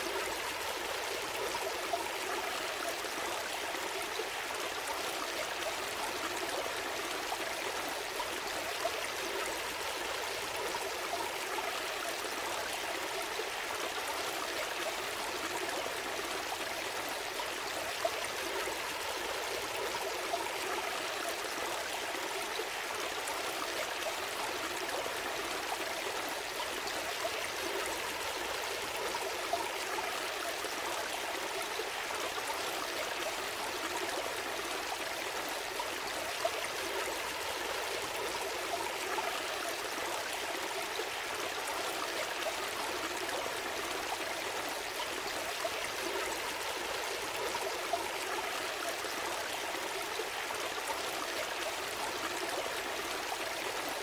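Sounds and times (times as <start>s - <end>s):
stream flowing and trickling: 0.0s - 54.0s.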